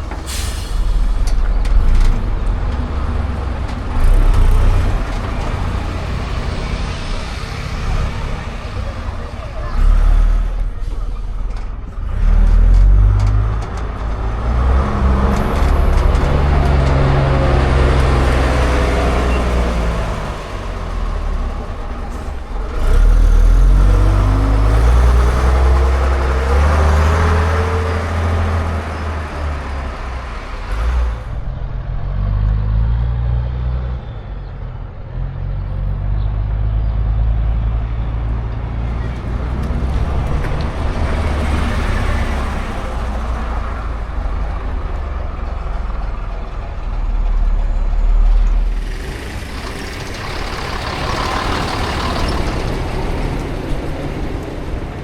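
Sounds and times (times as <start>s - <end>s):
diesel bus engines accelerating: 0.0s - 55.0s
low engine rumble: 0.0s - 55.0s.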